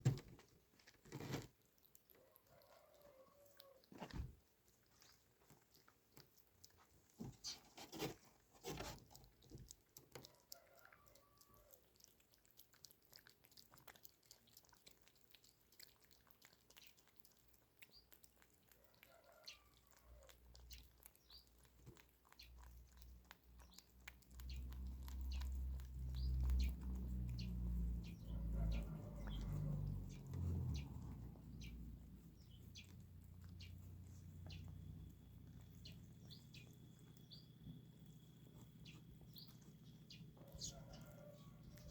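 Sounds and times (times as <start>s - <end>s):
cat chewing and crunching: 0.0s - 41.9s.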